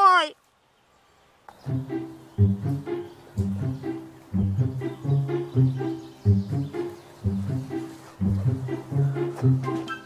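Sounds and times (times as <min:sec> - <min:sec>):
low repeating music phrase: 0:01.6 - 0:10.0.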